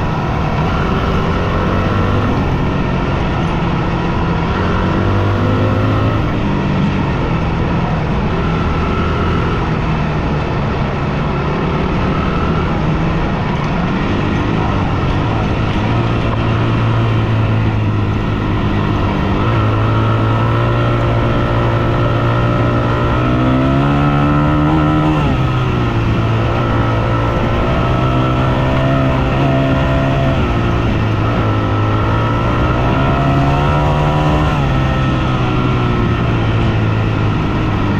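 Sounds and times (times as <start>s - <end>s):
dirt bike engine revving: 0.0s - 6.6s, 11.3s - 37.9s.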